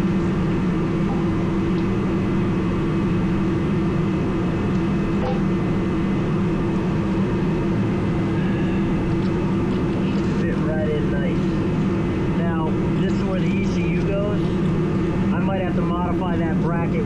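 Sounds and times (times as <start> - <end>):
heater droning: 0.0 - 17.0.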